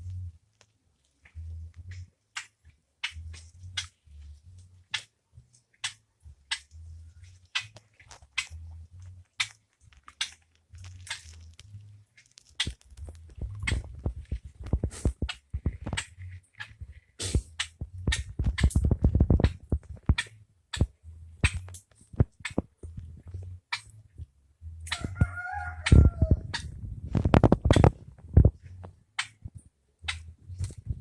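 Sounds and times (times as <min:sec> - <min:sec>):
birds pecking on hard surface: 0:00.6 - 0:31.0.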